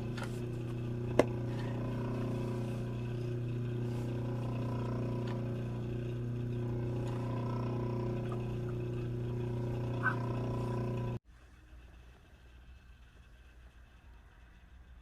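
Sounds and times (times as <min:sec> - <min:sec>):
steady low machine hum: 0:00.0 - 0:15.0.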